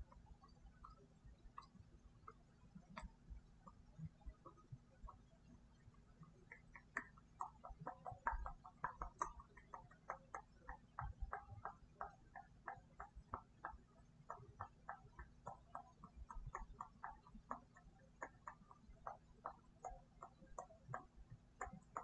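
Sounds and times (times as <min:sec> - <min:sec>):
mouth clicks and lip pops: 0:00.0 - 0:22.0.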